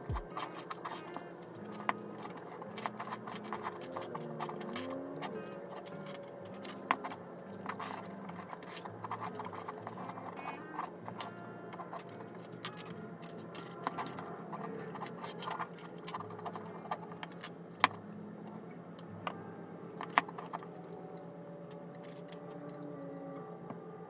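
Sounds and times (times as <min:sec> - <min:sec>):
small hard objects clicking: 0:00.0 - 0:18.0, 0:20.0 - 0:22.9.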